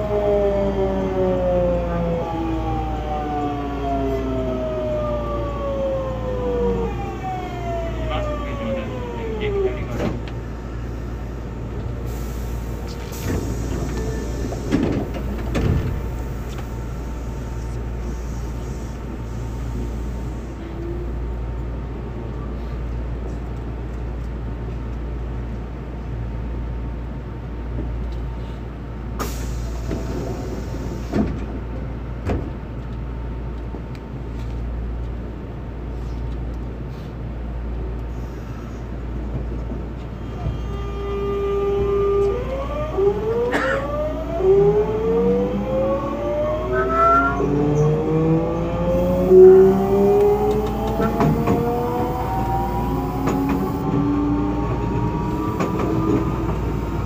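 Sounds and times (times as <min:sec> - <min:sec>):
low hum of subway car equipment: 0:00.0 - 0:57.0.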